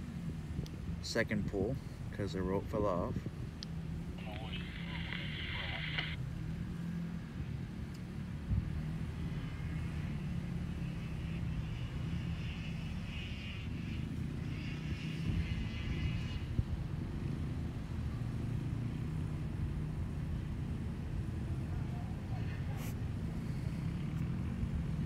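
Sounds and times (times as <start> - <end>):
truck engines rumbling: 0.0 - 25.0.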